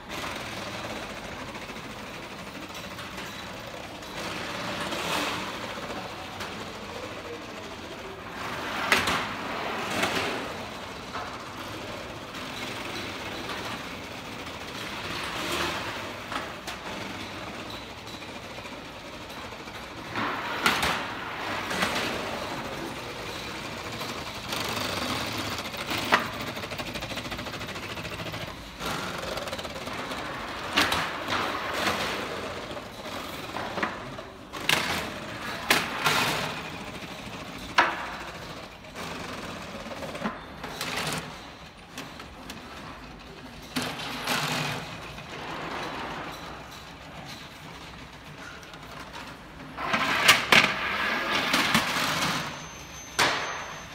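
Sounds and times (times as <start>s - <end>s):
plastic trays rattling on rollers: 0.0s - 53.9s.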